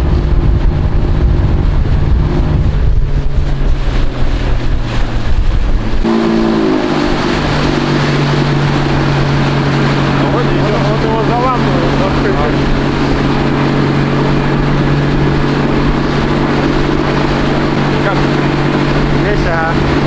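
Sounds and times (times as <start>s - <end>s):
outboard motor running: 0.0s - 20.0s
wind buffeting microphone: 0.0s - 20.0s.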